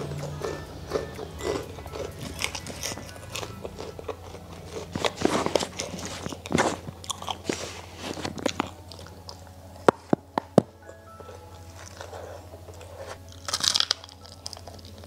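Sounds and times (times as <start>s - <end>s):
crunchy chewing of fried food: 0.0s - 10.2s, 10.9s - 15.0s.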